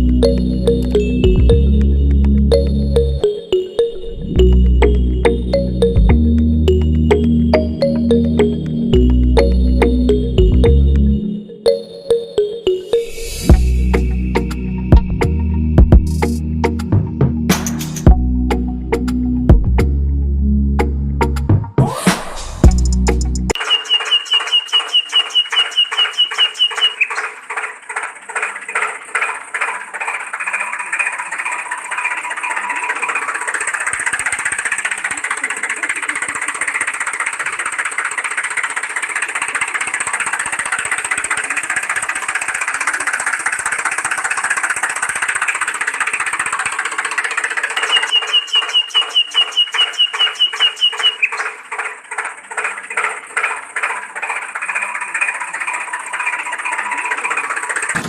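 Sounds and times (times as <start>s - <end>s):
tractor engine chugging: 0.0s - 11.9s, 12.8s - 20.1s, 22.4s - 58.0s.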